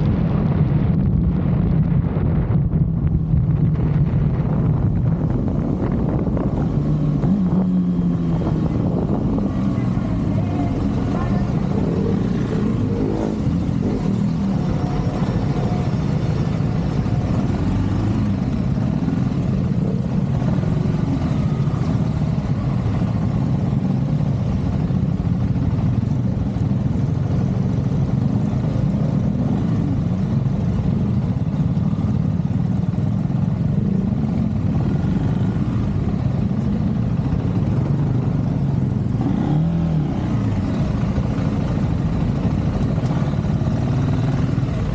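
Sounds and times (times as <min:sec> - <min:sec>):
motorcycle engine running: 0:02.7 - 0:44.9.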